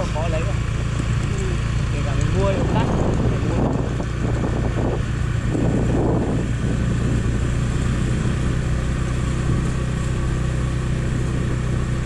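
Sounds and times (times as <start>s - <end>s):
motorbike engine cruising: 0.0s - 12.0s
road noise: 0.0s - 12.0s.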